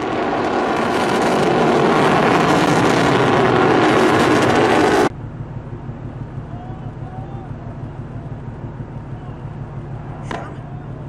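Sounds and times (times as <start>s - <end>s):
rocket motor exhaust roar: 0.0s - 11.0s.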